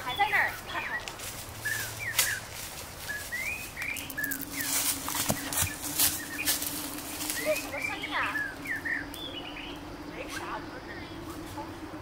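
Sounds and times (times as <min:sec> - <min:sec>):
bird chirps: 0:00.0 - 0:11.9
low steady hum: 0:00.0 - 0:12.0
rustling crackles in dry leaves: 0:00.0 - 0:12.0.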